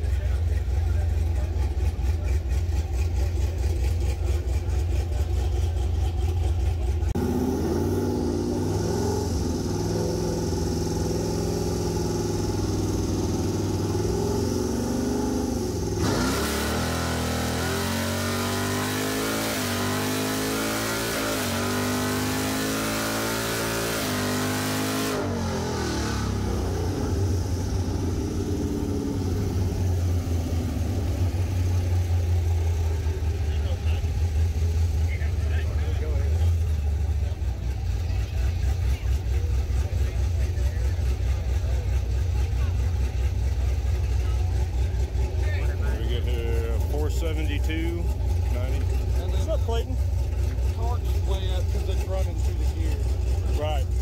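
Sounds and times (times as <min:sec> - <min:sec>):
pickup engine revving: 0:00.0 - 0:54.0.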